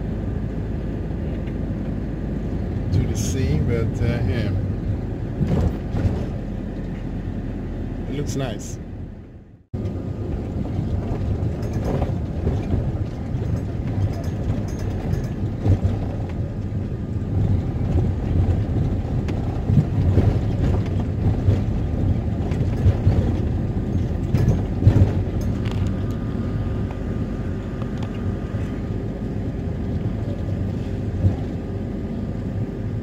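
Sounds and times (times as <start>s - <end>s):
wind buffeting microphone: 0.0s - 8.0s, 9.8s - 33.0s
engine and road rumble: 0.0s - 33.0s.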